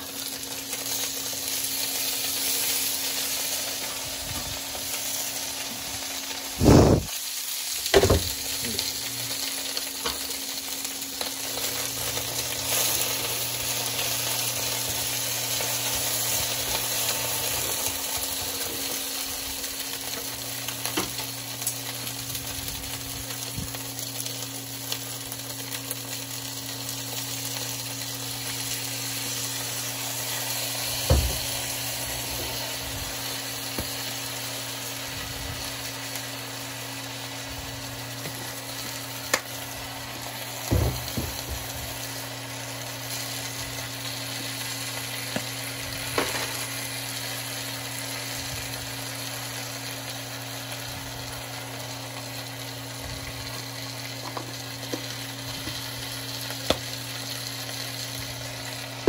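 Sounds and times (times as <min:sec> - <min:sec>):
chicken and onion sizzling: 0:00.0 - 0:59.0.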